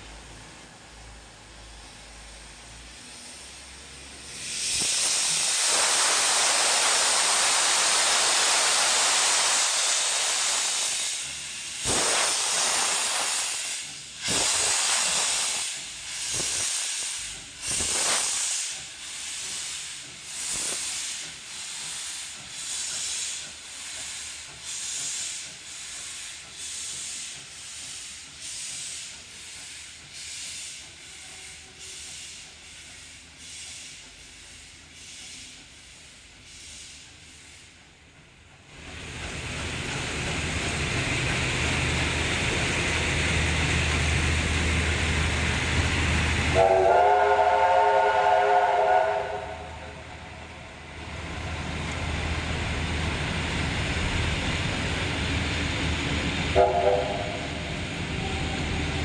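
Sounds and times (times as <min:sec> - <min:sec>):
steam locomotive exhaust chuffs: 0:01.4 - 0:59.0
steam hissing: 0:01.8 - 0:37.8, 0:38.7 - 0:59.0.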